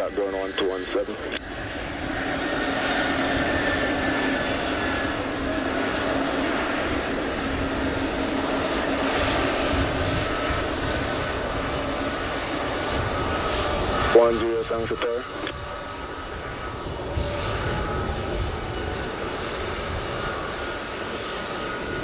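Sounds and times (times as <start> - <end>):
jet engines at low power: 0.0 - 22.0.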